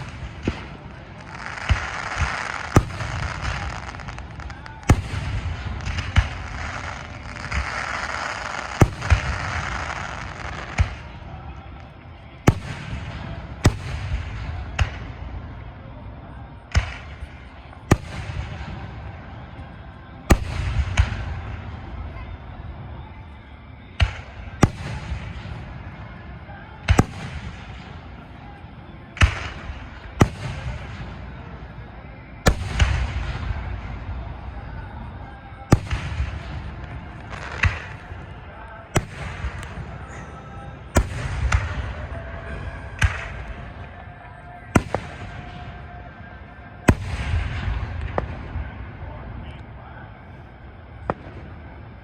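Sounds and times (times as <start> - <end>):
fireworks bangs: 0.0 - 52.0
low rumbling echo: 8.8 - 52.0.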